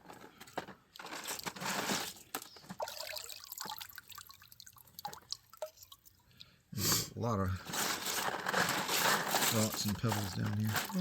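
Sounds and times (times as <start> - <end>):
water splashing and trickling: 1.0 - 6.6, 7.7 - 11.0.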